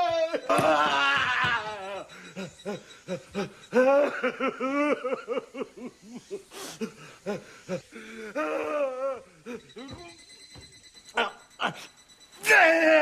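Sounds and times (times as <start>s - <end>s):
old man crying out: 0.0s - 10.1s, 11.2s - 13.0s
rhythmic breathy voice pulses: 0.0s - 12.3s.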